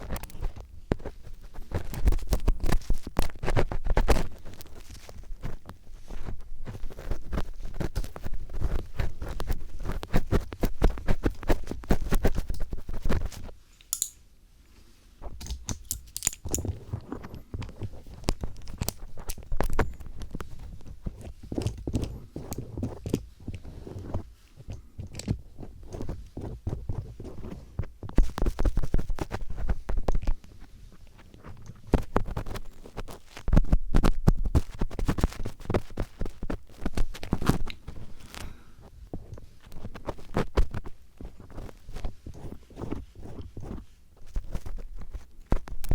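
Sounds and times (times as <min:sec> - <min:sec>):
screwdriver scratching on microphone: 0:00.0 - 0:14.0, 0:15.2 - 0:38.4, 0:39.1 - 0:45.9.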